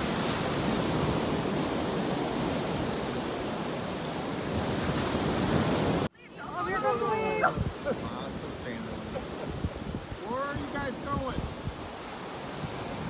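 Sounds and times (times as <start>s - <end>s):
small waves washing on beach: 0.0s - 13.0s
wind on microphone: 0.0s - 13.0s.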